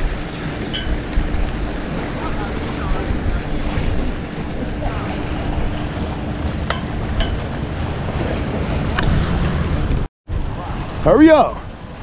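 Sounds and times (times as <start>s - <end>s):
surf washing against jetty: 0.0s - 12.0s
wind buffeting microphone: 0.0s - 12.0s.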